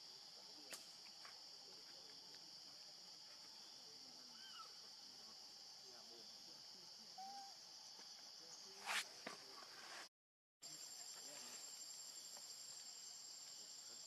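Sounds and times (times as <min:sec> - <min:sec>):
faint insect chirps: 0:00.0 - 0:10.0, 0:10.6 - 0:14.0
insects droning: 0:00.0 - 0:14.0.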